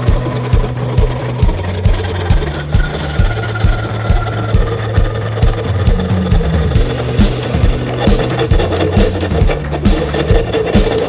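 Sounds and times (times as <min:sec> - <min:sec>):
background music with beat and bass: 0:00.0 - 0:11.0.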